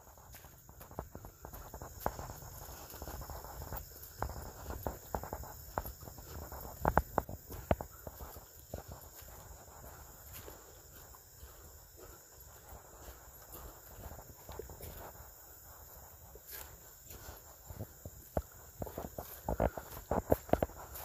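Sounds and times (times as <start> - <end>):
footsteps crunching on forest trail: 0.0 - 21.0
high insect hiss: 0.0 - 21.0.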